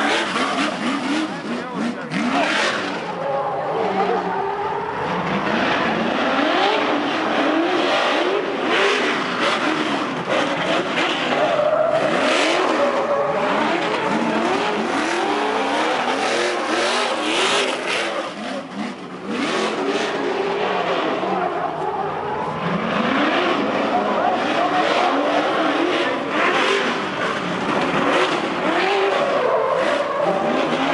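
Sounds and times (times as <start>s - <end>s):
truck engines revving hard: 0.0s - 30.9s.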